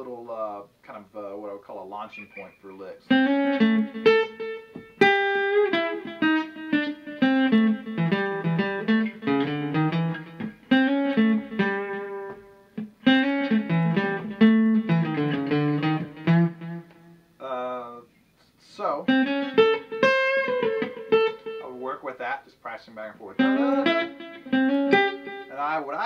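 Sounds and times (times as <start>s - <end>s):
acoustic guitar blues licks: 1.5s - 17.8s, 18.9s - 26.0s.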